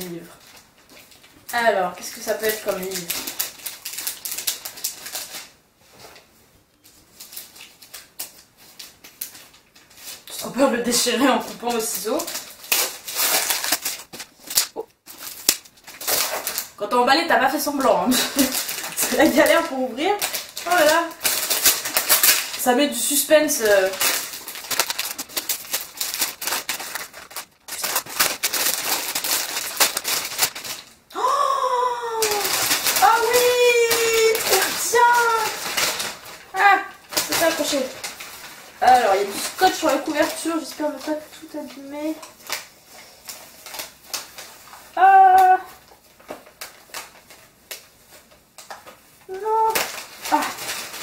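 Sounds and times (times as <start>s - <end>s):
metallic wrapping paper crinkling: 0.0s - 31.4s, 32.1s - 51.0s.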